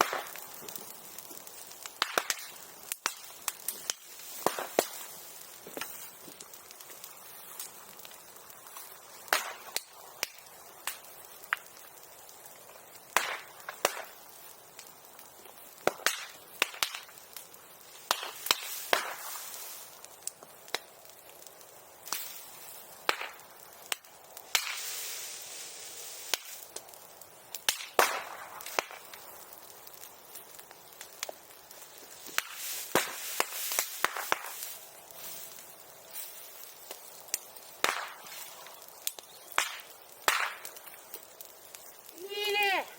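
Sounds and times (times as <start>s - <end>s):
bamboo cracking and popping in fire: 0.0s - 42.9s
fire hissing: 0.0s - 42.9s.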